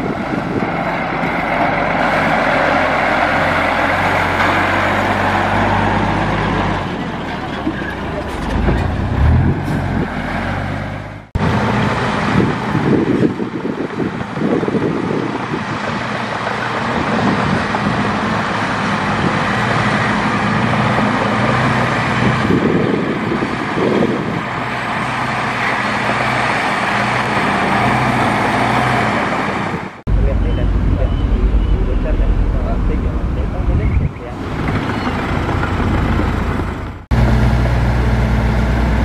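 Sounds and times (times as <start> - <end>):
dump truck diesel engine running: 0.0 - 39.0.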